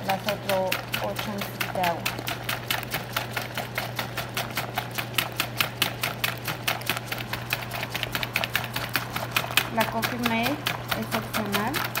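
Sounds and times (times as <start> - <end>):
utensil stirring in plastic bowl: 0.0 - 12.0.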